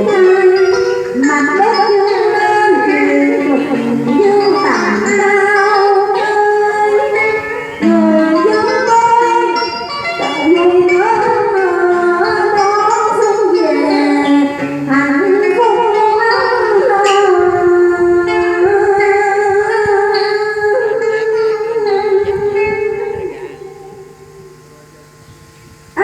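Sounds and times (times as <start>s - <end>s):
sliding pitch melody: 0.0s - 25.2s
plucked strings: 0.0s - 26.0s.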